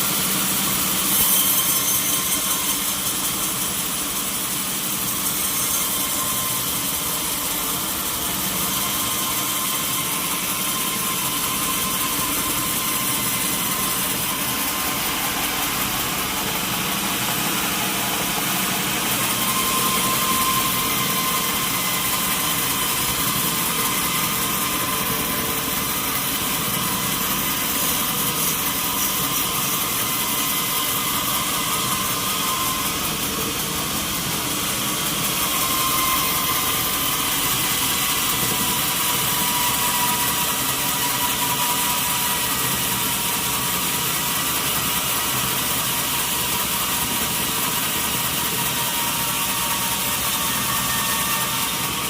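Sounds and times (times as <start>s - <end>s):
sawmill saw cutting log: 0.0s - 52.0s.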